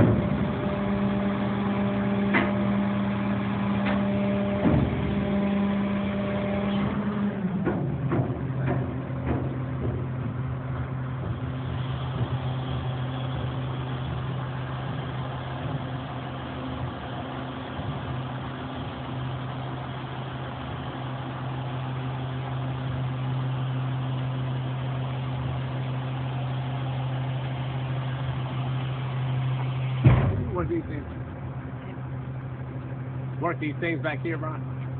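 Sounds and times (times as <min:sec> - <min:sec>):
diesel truck engine humming: 0:00.0 - 0:34.9.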